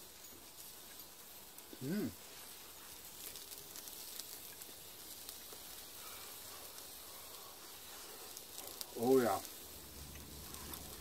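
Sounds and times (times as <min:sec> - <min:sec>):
sausage sizzling on a grill: 0:00.0 - 0:11.0.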